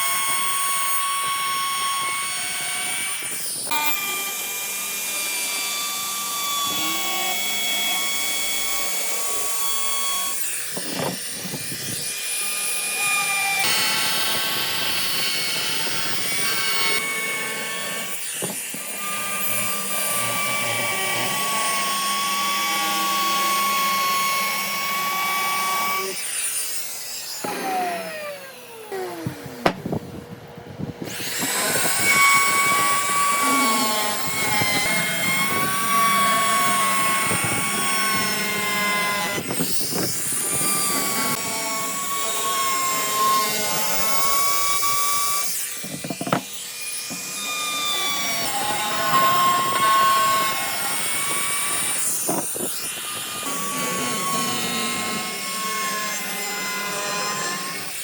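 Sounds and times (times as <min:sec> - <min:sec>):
power tool whining into wood: 0:00.0 - 0:58.0.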